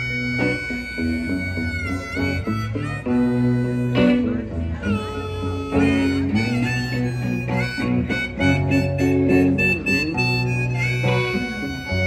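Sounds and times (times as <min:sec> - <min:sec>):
harmonica bending notes: 0:00.0 - 0:12.0
strummed electric guitar: 0:00.0 - 0:12.0.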